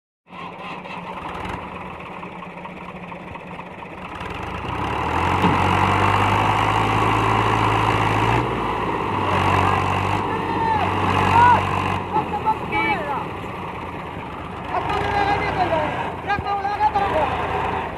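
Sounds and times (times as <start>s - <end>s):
tractor diesel engine under load: 0.3s - 17.9s.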